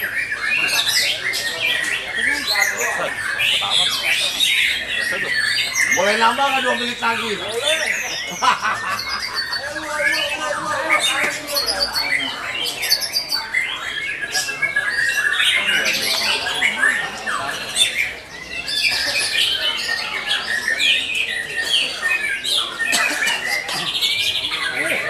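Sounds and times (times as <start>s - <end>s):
chorus of songbirds singing: 0.0s - 25.0s.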